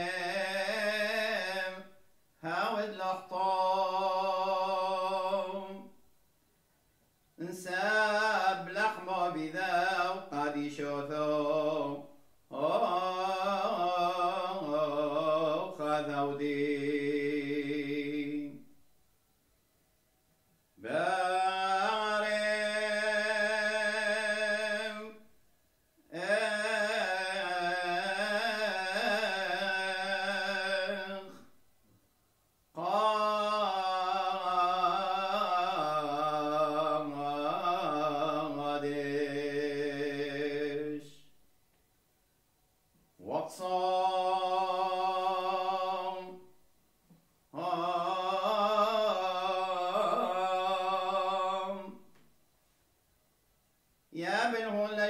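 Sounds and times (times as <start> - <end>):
man chanting: 0.0 - 6.0, 7.4 - 18.6, 20.8 - 25.3, 26.0 - 31.5, 32.7 - 41.3, 43.2 - 46.5, 47.5 - 52.1, 54.1 - 55.0.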